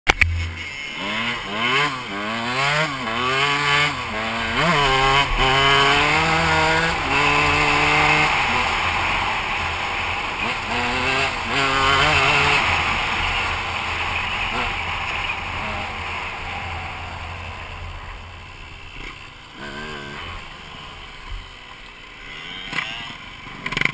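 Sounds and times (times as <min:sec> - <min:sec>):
dirt bike engine revving: 0:00.1 - 0:23.9.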